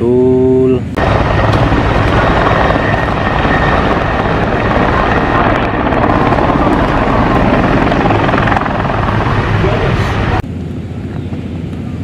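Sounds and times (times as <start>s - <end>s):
high turbine whine: 0.0s - 12.0s
helicopter rotor roar: 0.4s - 12.0s.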